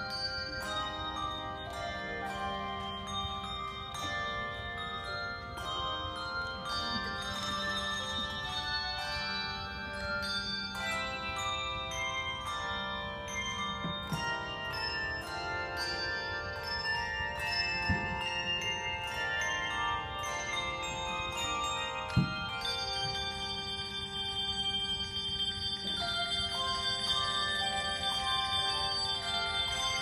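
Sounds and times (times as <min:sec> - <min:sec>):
handbell choir playing: 0:00.0 - 0:30.0.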